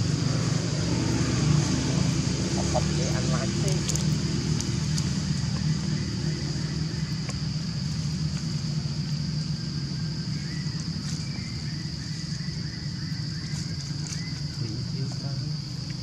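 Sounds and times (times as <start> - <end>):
high-pitched insect drone: 0.0 - 16.0
low engine-like hum: 0.0 - 16.0.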